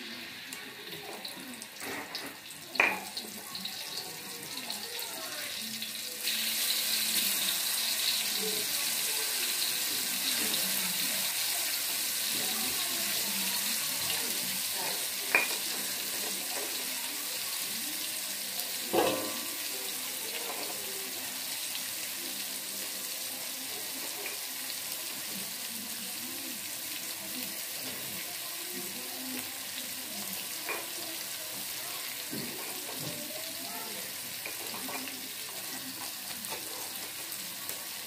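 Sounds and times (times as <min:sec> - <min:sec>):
spice paste sizzling in oil: 0:02.4 - 0:38.0.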